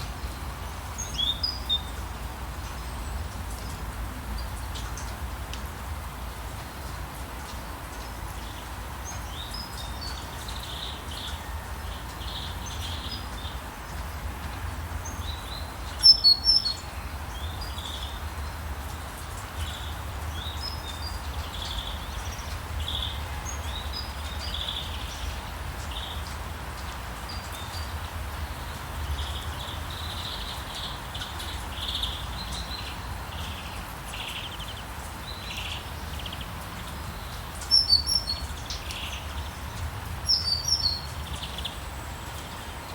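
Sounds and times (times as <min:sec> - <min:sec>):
rain hiss: 0:00.0 - 0:42.9.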